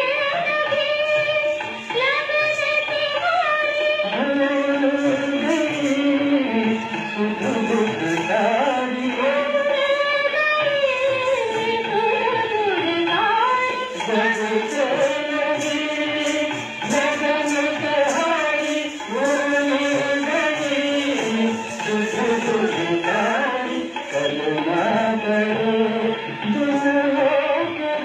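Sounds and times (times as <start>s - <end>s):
person singing with instruments: 0.0s - 28.0s.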